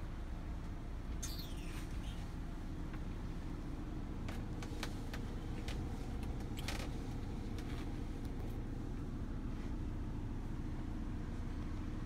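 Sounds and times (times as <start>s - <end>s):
engine rumble inside cab: 0.0s - 12.0s.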